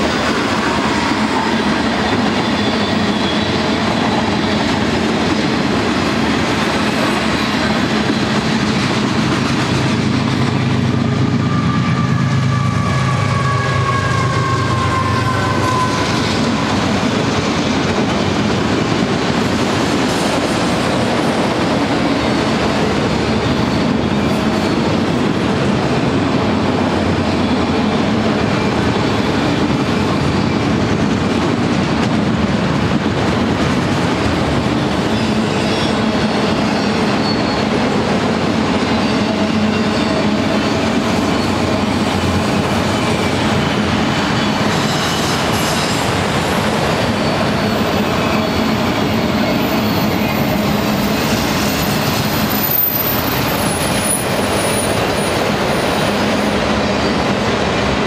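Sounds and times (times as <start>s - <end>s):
diesel locomotive engine drone: 0.0s - 58.0s
locomotive high whine: 0.0s - 58.0s
train wheels clacking on rails: 0.0s - 58.0s.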